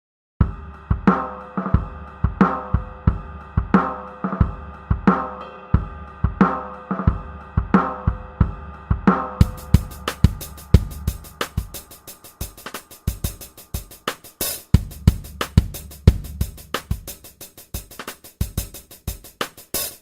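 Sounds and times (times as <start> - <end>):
drum kit playing a steady beat: 0.4 - 20.0
sustained instrumental chords: 0.5 - 17.4.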